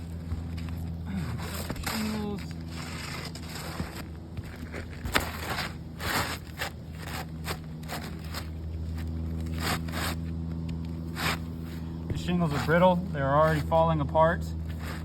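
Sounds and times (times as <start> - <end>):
shingles scraping and crackling: 0.0 - 15.0
steady low hum: 0.0 - 15.0.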